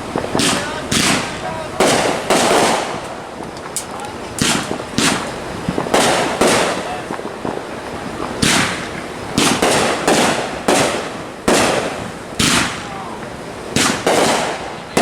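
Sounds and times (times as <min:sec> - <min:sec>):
fireworks bangs echoing: 0:00.0 - 0:15.0.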